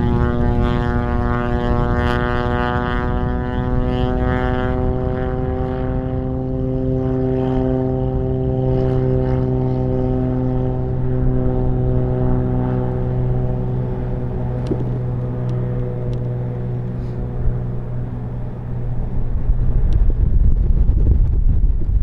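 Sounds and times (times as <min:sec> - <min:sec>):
propeller aircraft engine humming: 0:00.0 - 0:22.0.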